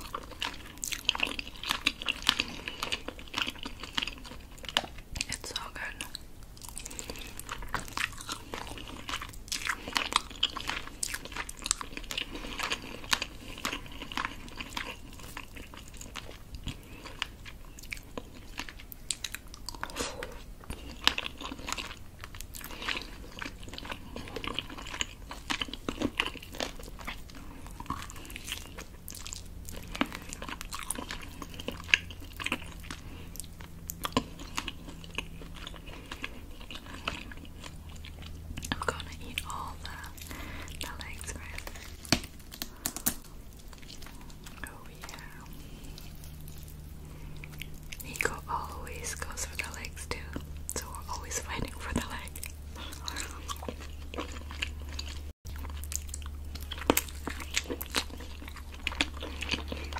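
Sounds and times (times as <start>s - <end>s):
chewing and biting meat: 0.0s - 59.9s.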